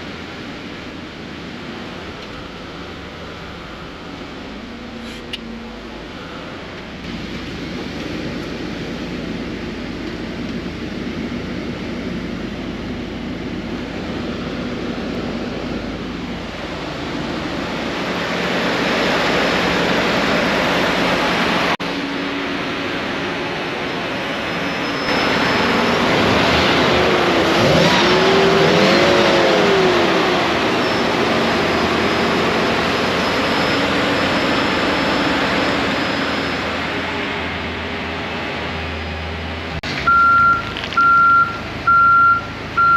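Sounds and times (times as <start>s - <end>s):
bus engine running: 0.0s - 42.9s.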